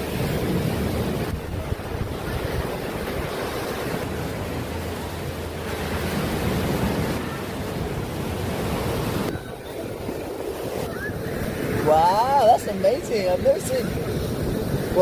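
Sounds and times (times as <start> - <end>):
surf washing onto beach: 0.0 - 15.0
wind rumbling on microphone: 0.0 - 15.0.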